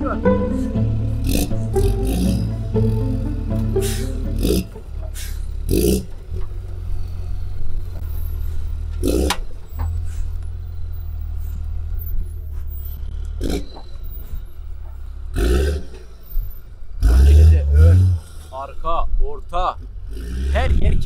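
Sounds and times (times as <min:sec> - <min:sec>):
armoured vehicle engine drone: 0:00.0 - 0:21.0.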